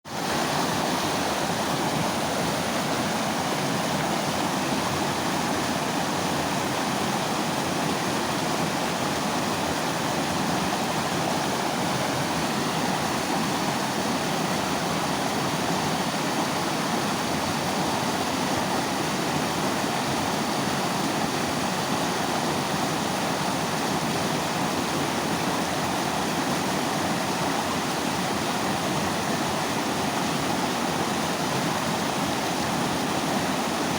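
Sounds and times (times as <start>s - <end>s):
water rushing over rocks: 0.1s - 33.9s.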